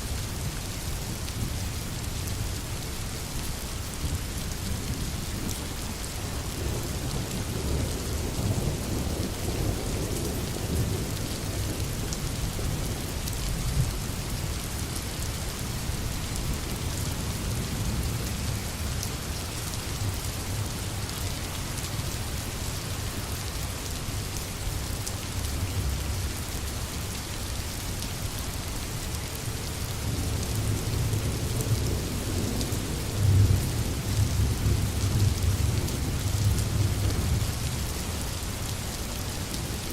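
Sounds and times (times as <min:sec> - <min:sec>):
heavy rain hissing: 0:02.3 - 0:39.9.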